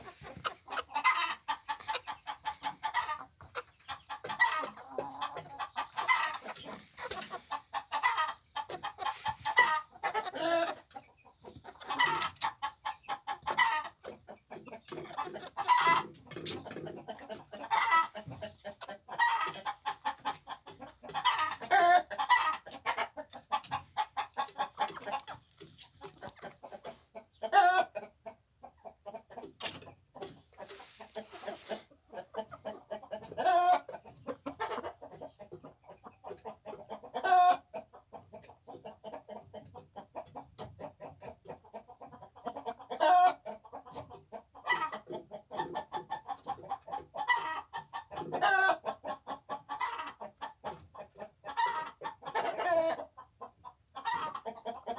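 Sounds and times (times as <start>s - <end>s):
chickens clucking: 0.0s - 54.9s.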